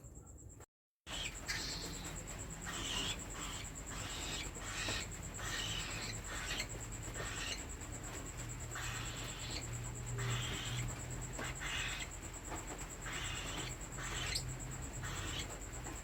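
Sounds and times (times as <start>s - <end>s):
steady high-pitched whine: 0.0s - 16.0s
bird chicks begging calls: 1.1s - 16.0s.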